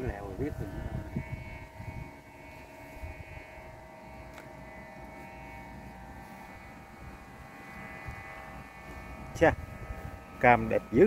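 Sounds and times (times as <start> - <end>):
wind rumbling on microphone: 0.0 - 5.0, 5.7 - 11.0
droning hum of held tones: 0.0 - 11.0.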